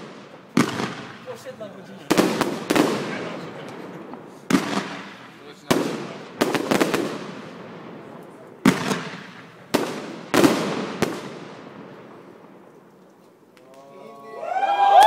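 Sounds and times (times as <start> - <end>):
fireworks bursting: 0.0 - 13.8.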